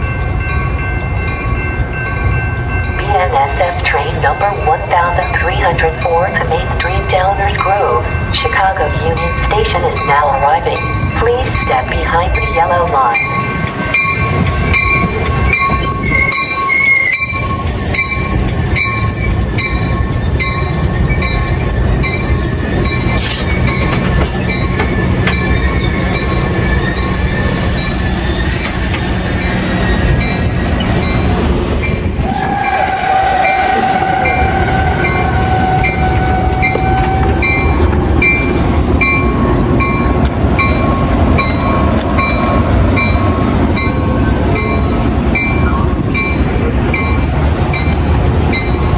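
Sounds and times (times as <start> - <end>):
grade-crossing bell dinging: 0.0 - 48.9
train running: 0.0 - 48.9.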